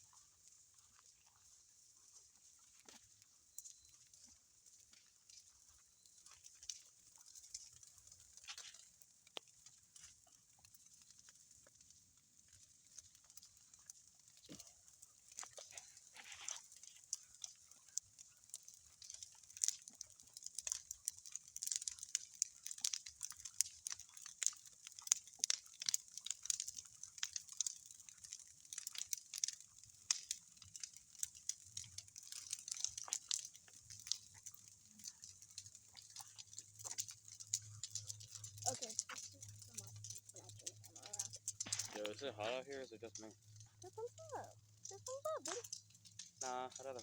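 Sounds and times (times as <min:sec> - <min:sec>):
bonfire crackling and popping: 0:00.0 - 0:47.0.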